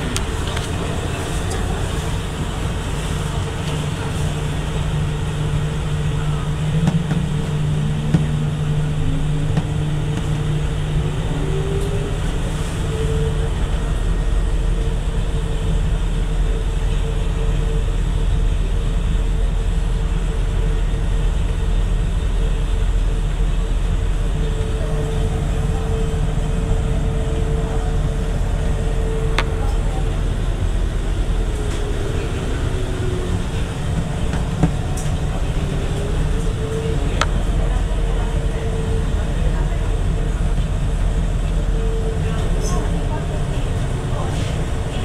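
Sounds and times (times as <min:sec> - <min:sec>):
train rumble with hum: 0:00.0 - 0:45.0.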